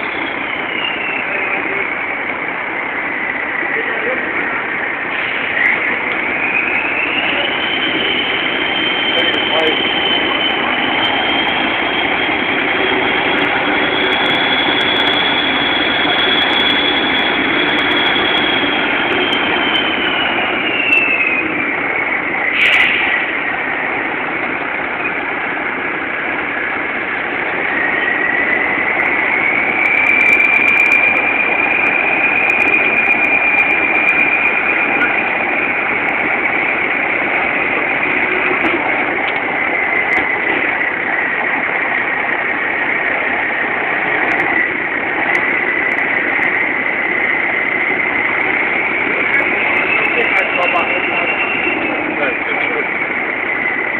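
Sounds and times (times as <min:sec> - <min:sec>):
high whine: 0:00.0 - 0:53.9.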